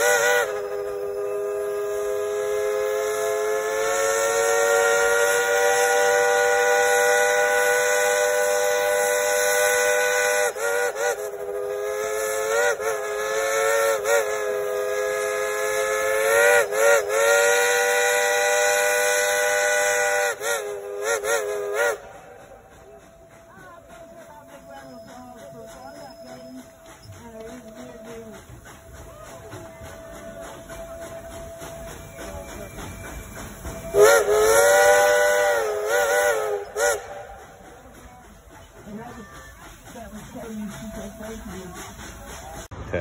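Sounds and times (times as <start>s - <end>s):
steam locomotive whistle: 0.0s - 42.7s.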